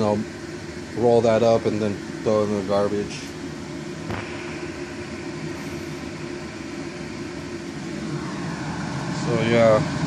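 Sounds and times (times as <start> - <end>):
appliance or fan humming: 0.0 - 10.0.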